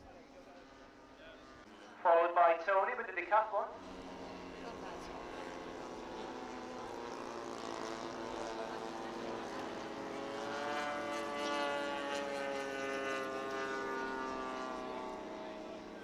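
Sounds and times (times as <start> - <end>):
model aircraft engine drone: 0.0 - 16.0.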